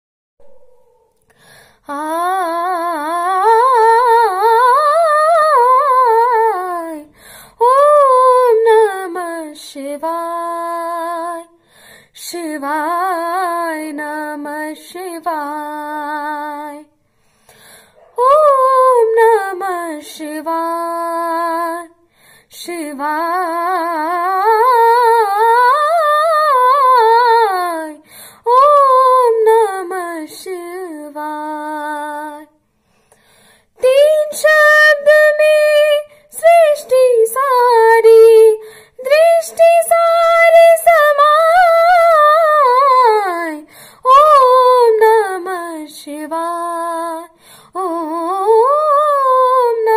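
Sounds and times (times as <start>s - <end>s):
girl singing unaccompanied: 1.8s - 17.0s, 18.0s - 32.6s, 33.7s - 49.9s.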